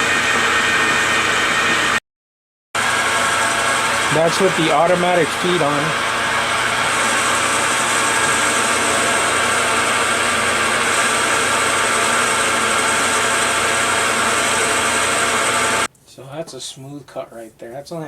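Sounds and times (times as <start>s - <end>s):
metal lathe cutting: 0.0s - 2.0s, 2.8s - 15.9s.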